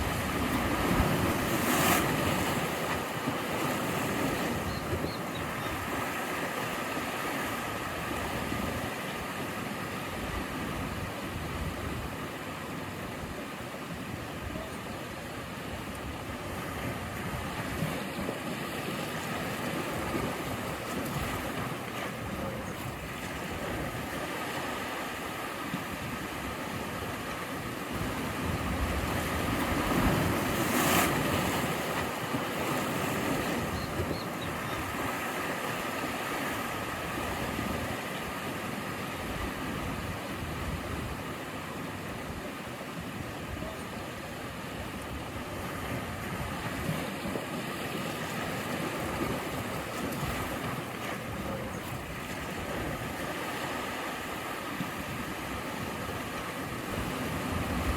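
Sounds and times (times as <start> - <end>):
waves breaking on shore: 0.0 - 57.9.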